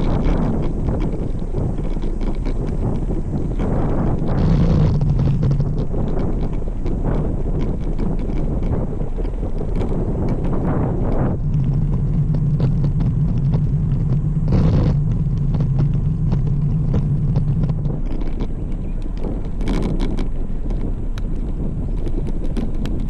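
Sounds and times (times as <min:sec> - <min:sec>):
bicycle clicks and rattles: 0:00.0 - 0:23.0
road rumble: 0:00.0 - 0:23.0
steady low hum: 0:00.0 - 0:23.0
wind buffeting microphone: 0:00.0 - 0:23.0.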